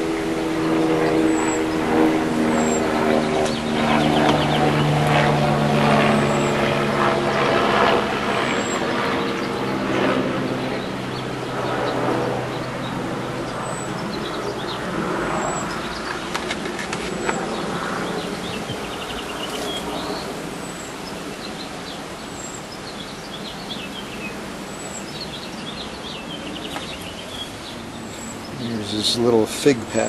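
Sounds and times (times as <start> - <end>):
outdoor background noise: 0.0 - 30.0
small birds chirping and trilling: 0.0 - 30.0.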